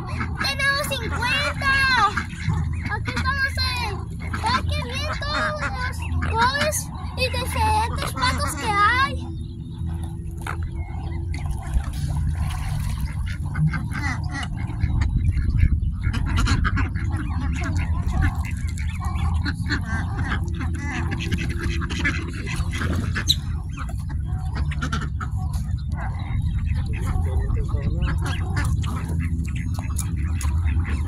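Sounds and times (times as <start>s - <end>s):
ducks and coots calling: 0.0s - 31.0s
low rumble: 0.0s - 31.0s.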